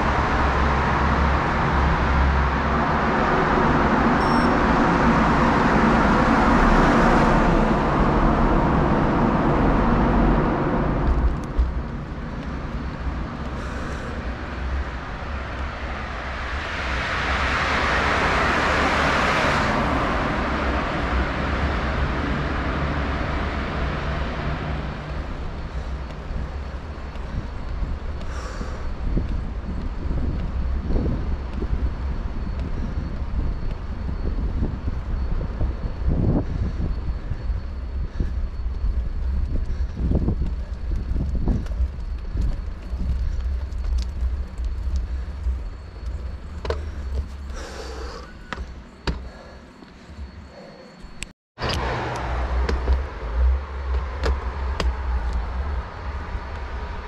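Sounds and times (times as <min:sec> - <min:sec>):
motor vehicle passing: 0:00.0 - 0:35.0, 0:37.8 - 0:57.0
wind rumbling on microphone: 0:00.0 - 0:57.0.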